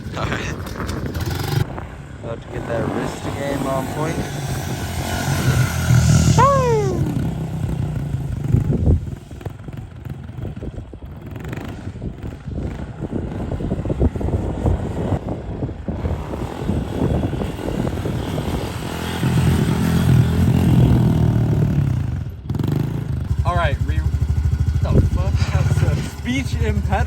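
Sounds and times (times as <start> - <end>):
dirt bike engine running: 0.0 - 1.9, 2.5 - 27.0.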